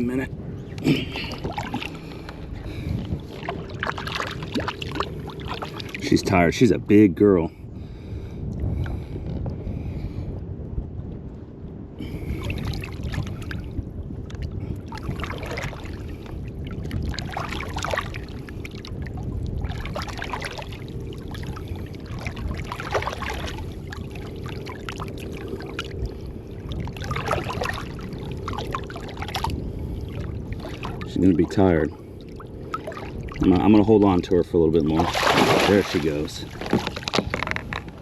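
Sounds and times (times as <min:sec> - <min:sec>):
water sloshing and splashing: 0:00.0 - 0:06.4, 0:12.0 - 0:38.0
wind rumble on microphone: 0:00.0 - 0:38.0.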